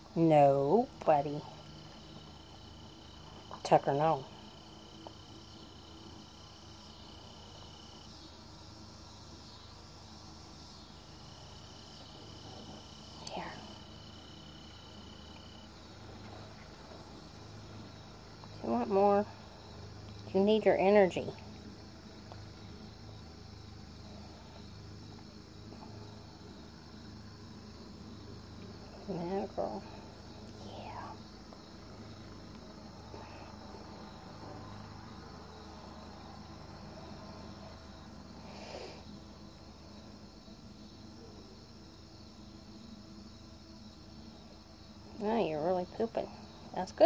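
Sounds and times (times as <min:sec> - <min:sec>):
crickets chirping: 0:00.0 - 0:47.0
insect high-pitched trill: 0:00.0 - 0:47.0.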